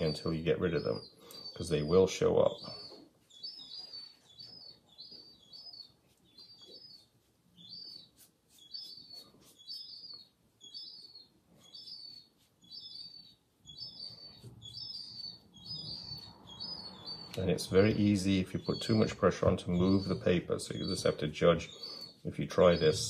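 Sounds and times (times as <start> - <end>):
small bird chirping: 0.0 - 23.0.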